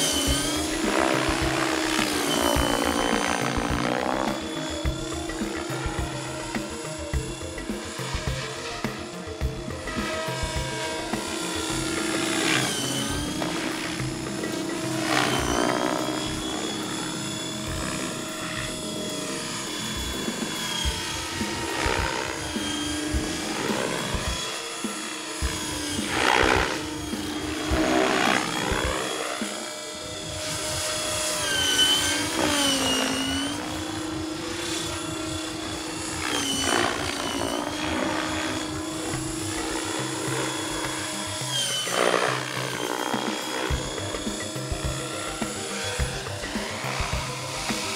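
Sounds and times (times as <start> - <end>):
model helicopter rotor whine: 0.0 - 47.9.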